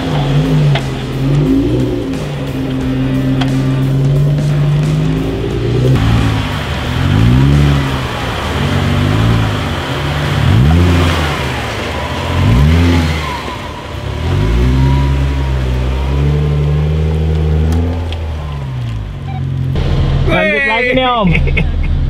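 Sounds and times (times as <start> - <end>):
engine revving: 0.0 - 20.9.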